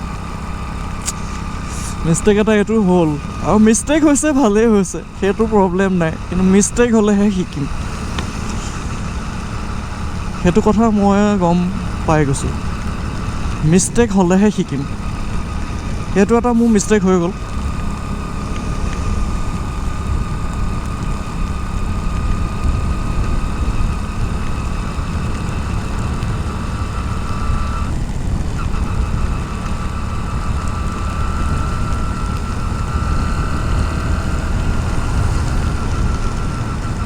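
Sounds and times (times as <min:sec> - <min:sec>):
motorcycle engine and road rumble: 0:00.0 - 0:37.0
thin whine: 0:00.0 - 0:37.0.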